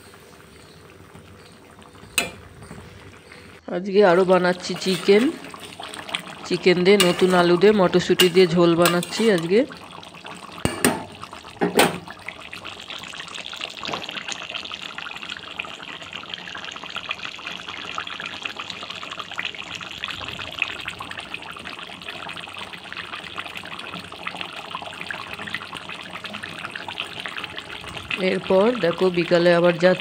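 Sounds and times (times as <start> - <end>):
curry bubbling in a pot: 0.0 - 30.0.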